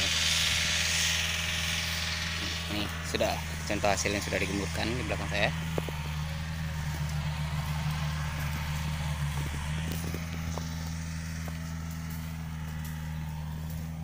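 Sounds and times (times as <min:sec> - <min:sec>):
hand tractor engine running: 0:00.0 - 0:14.0.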